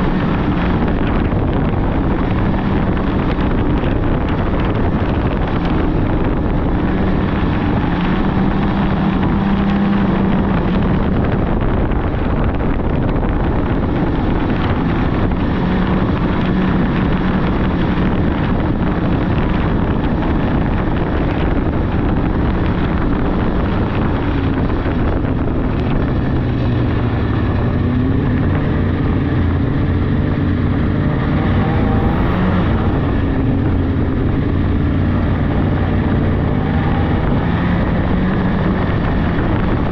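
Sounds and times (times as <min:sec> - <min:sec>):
snowmobile engine running: 0:00.0 - 0:39.9
wind on microphone: 0:00.0 - 0:39.9.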